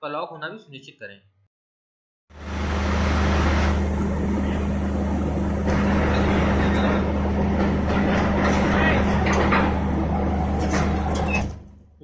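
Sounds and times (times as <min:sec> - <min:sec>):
diesel locomotive engine running: 0:02.3 - 0:12.0.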